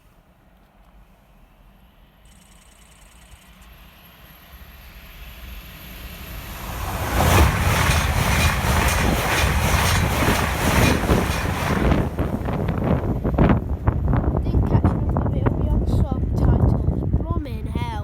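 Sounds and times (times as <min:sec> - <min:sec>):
high-speed train passing: 0:00.0 - 0:02.4, 0:03.3 - 0:18.0.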